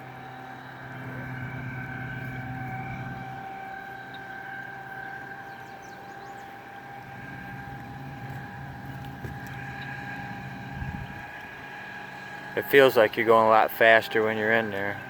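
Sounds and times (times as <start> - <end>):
outboard motor whine: 0.0 - 15.0.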